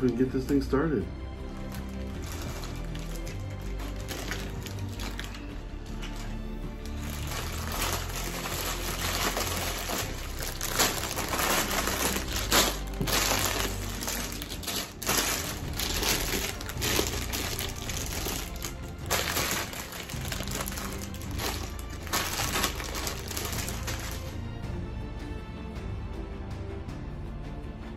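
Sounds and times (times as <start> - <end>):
background music: 0.0 - 27.9
plastic bags crinkling: 1.5 - 24.3.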